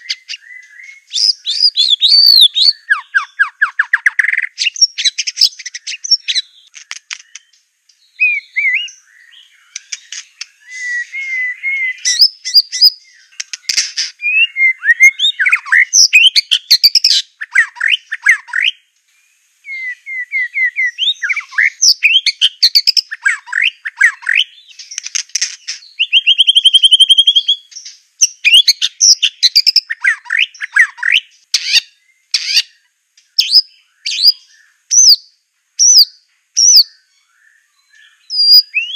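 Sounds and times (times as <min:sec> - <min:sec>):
songbird singing whistled phrases: 0:00.0 - 0:18.8, 0:19.6 - 0:25.1, 0:25.7 - 0:38.9.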